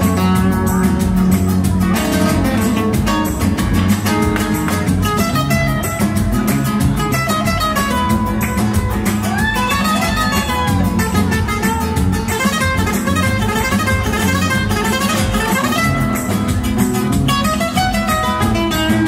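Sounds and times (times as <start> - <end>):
acoustic guitars playing rumba: 0.0 - 19.0.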